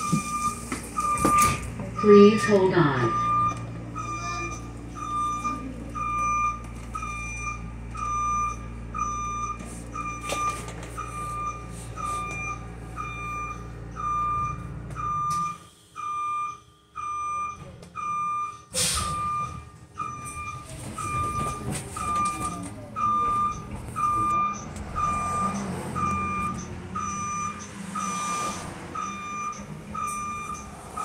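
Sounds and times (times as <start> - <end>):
electronic warning beeps: 0.0 - 31.0.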